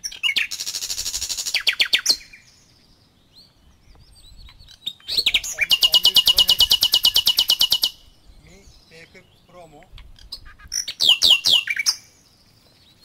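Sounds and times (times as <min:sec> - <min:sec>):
songbird trilling: 0:00.0 - 0:13.0.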